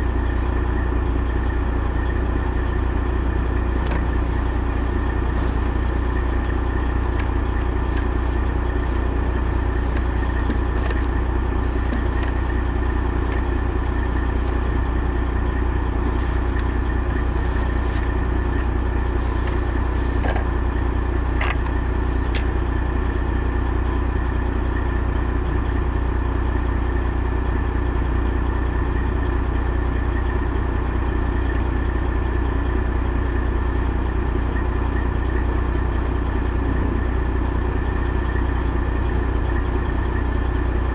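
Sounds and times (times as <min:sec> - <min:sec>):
diesel truck engine droning: 0:00.0 - 0:40.9.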